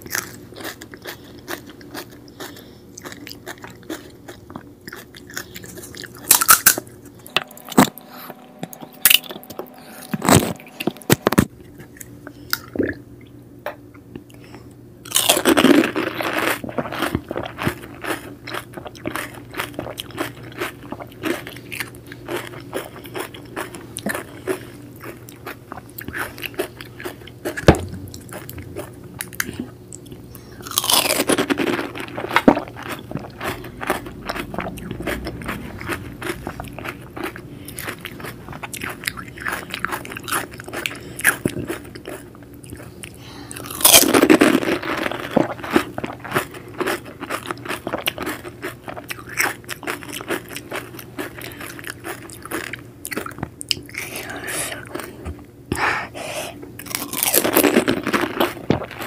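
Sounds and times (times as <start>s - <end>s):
chewing: 0.0s - 7.2s, 14.1s - 55.8s, 56.8s - 59.0s
crunching crisp shells: 0.0s - 7.6s, 15.1s - 54.1s, 56.8s - 59.0s.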